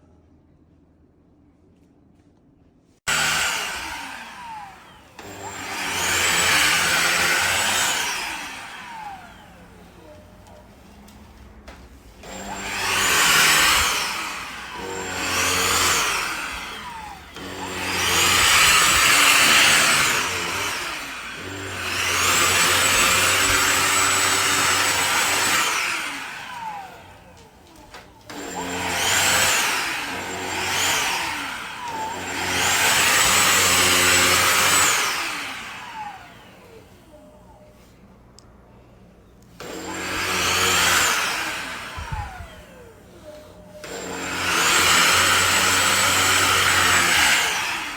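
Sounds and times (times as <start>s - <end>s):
stick vacuum motor whining: 3.1s - 47.9s.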